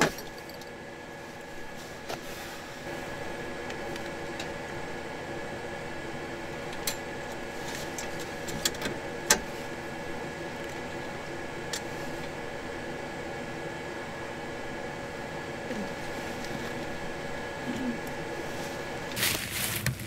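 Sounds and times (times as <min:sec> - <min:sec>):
faint constant tones: 0:00.0 - 0:20.0
machine hum: 0:00.0 - 0:20.0.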